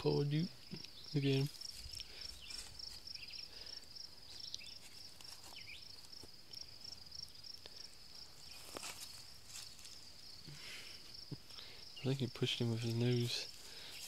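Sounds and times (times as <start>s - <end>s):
insects trilling: 0.0s - 14.0s
rustles and clicks in grass: 0.0s - 14.0s.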